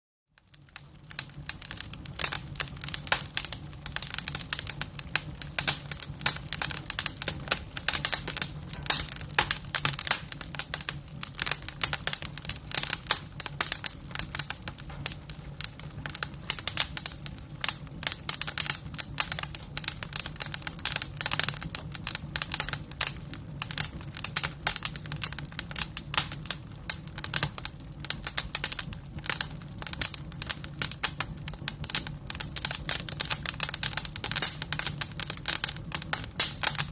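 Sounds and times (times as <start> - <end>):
wood fire crackling: 0.3 - 36.9.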